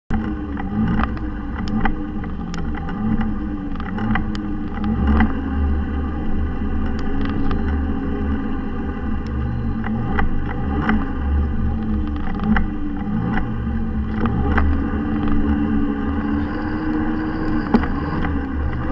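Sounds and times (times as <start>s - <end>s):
electric motorcycle rumble and whine: 0.1s - 18.9s.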